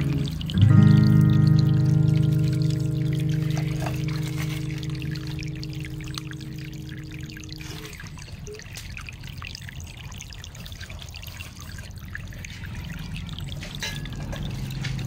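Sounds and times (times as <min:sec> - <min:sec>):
low steady hum: 0:00.0 - 0:15.0
water trickling in ditch: 0:00.0 - 0:15.0.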